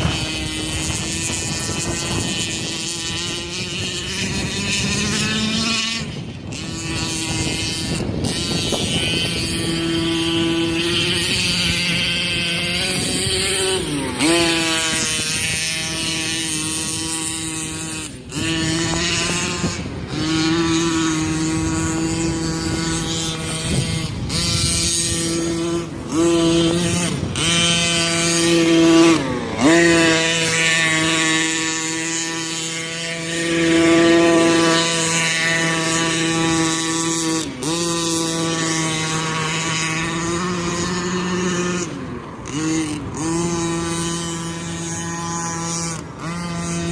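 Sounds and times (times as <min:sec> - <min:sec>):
rc truck engine revving: 0:00.0 - 0:46.9.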